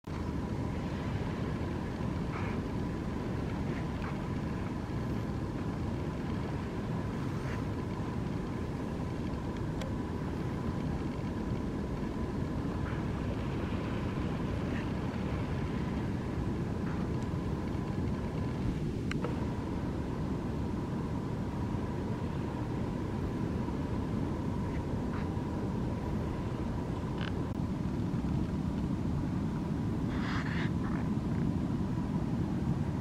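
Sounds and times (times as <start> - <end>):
wind buffeting microphone: 0.1 - 33.0.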